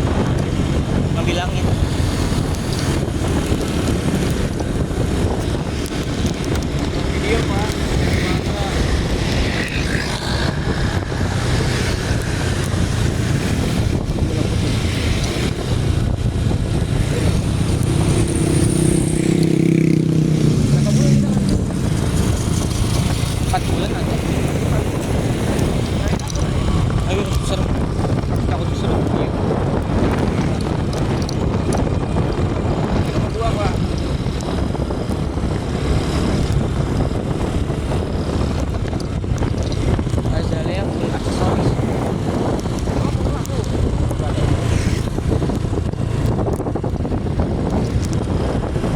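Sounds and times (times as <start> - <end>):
deep engine of approaching vehicle: 0.0 - 48.9
traffic noise: 0.0 - 48.9
wind buffeting microphone: 0.0 - 48.9.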